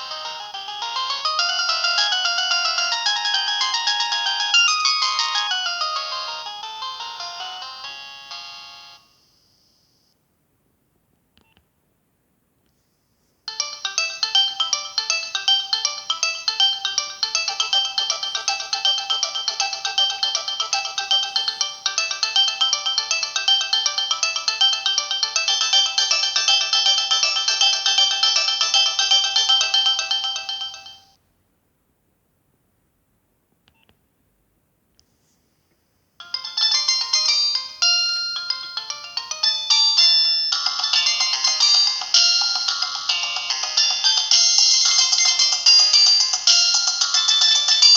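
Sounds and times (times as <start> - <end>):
polyphonic phone ringtone: 0.0 - 9.9, 13.5 - 31.2, 36.2 - 47.9.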